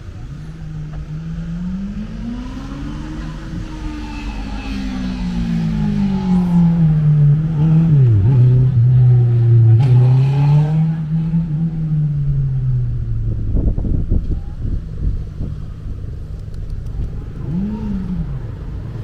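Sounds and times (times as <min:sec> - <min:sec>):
vehicle engine running loud: 0:00.0 - 0:19.0
low rumbling thumps: 0:03.6 - 0:19.0.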